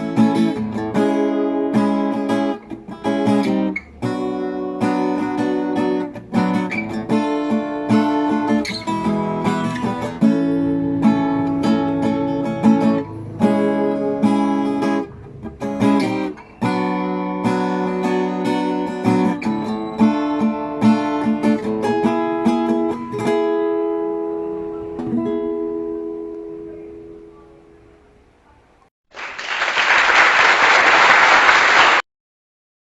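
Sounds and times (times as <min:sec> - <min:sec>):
acoustic guitar strumming chords: 0:00.0 - 0:28.0.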